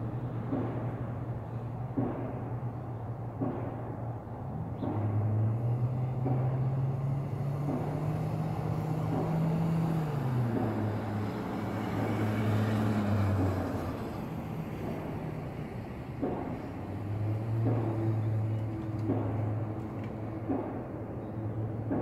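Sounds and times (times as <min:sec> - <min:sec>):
low engine drone: 0:00.0 - 0:22.0
faint thuds: 0:00.3 - 0:22.0.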